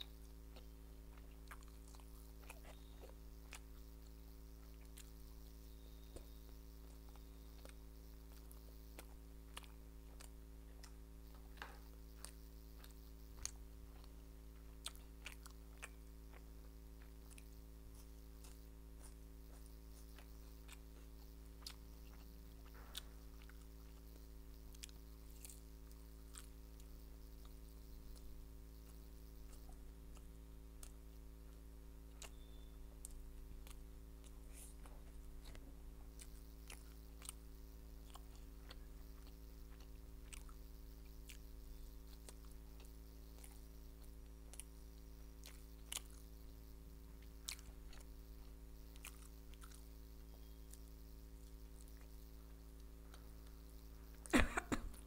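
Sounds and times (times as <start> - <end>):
chewing: 0.0 - 54.3
low electrical hum: 0.0 - 55.0.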